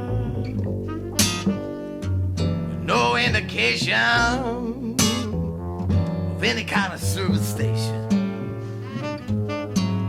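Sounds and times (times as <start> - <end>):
plucked string instruments: 0.0 - 9.1
low bass line: 0.0 - 10.0.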